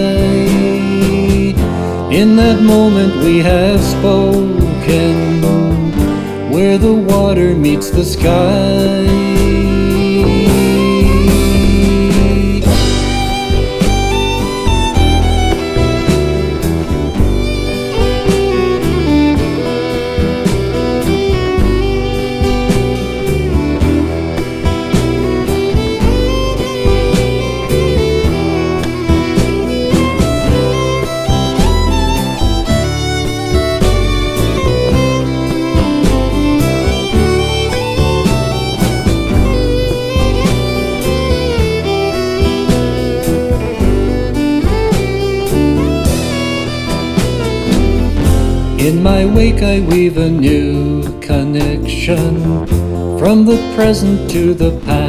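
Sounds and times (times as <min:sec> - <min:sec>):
folk melody line: 0:00.0 - 0:55.0
steady beat: 0:00.0 - 0:55.0
strummed guitar: 0:00.0 - 0:55.0.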